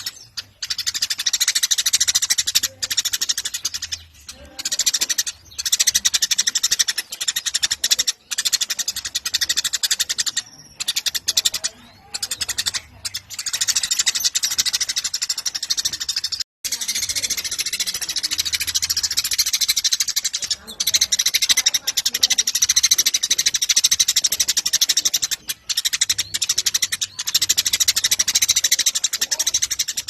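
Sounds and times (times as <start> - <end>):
sparrows chattering: 0.0 - 30.0.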